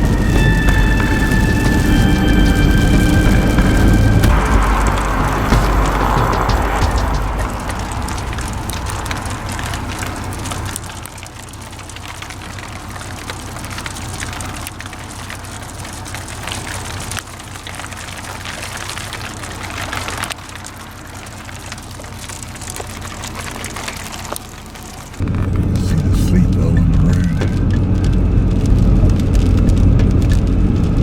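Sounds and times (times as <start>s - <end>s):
crackling hiss: 0.0s - 31.0s
road rumble: 0.0s - 31.0s.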